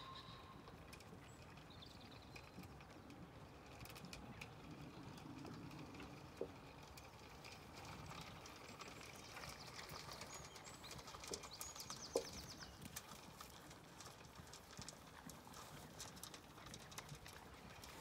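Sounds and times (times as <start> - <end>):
sheep eating at metal trough: 0.0 - 18.0.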